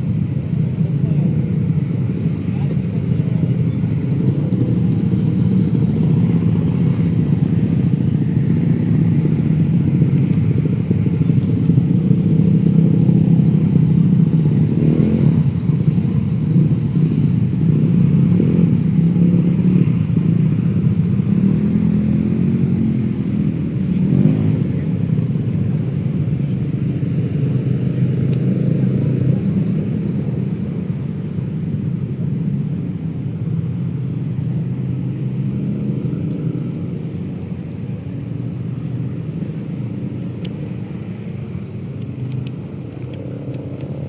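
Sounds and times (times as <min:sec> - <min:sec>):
motorcycles and cars passing: 0:00.0 - 0:44.0.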